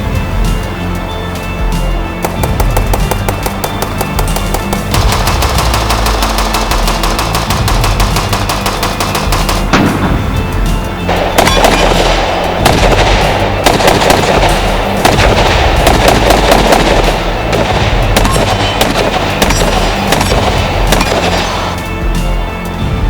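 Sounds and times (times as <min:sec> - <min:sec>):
background music with bass line: 0:00.0 - 0:23.0
rapid gunfire: 0:02.2 - 0:22.0.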